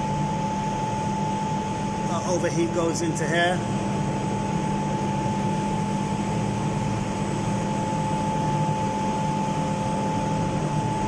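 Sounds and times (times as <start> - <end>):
thin constant whine: 0.0 - 11.0.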